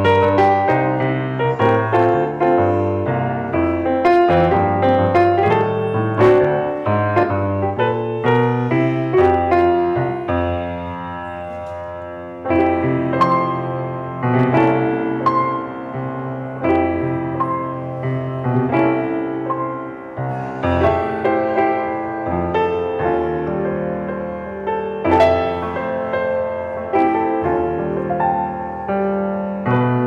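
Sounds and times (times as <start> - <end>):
slow gentle piano piece: 0.0 - 30.0.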